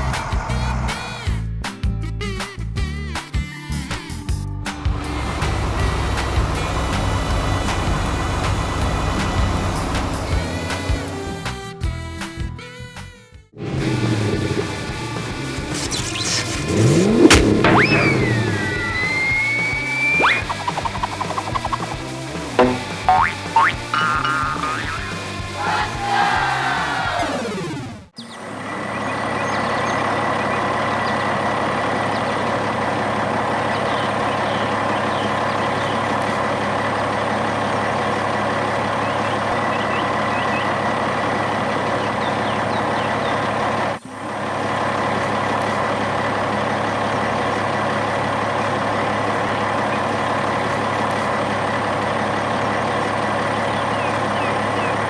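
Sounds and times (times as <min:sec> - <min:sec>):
heavy vehicle engine running: 0:00.0 - 0:01.6, 0:04.6 - 0:12.0, 0:13.6 - 0:55.0.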